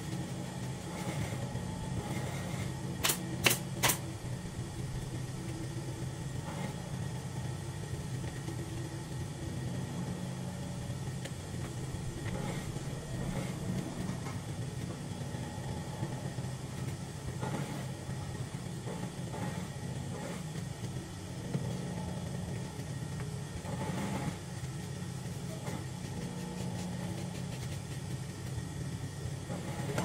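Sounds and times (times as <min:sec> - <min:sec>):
air compressor humming: 0:00.0 - 0:30.0.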